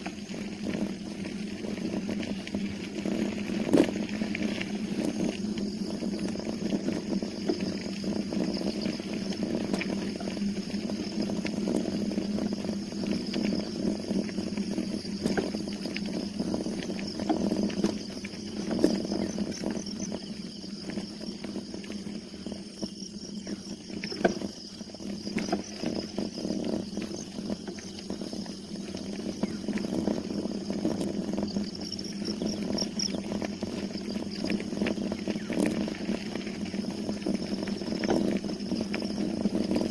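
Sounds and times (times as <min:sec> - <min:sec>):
bicycle rumbling and rattling: 0:00.0 - 0:39.9.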